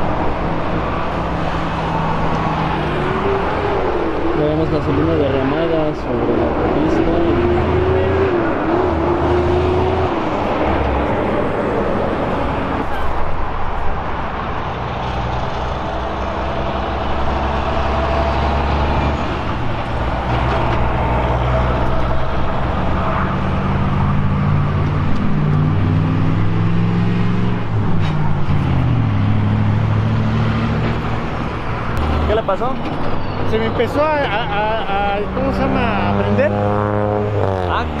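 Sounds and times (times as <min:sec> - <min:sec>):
truck and car engines running: 0:00.0 - 0:38.0.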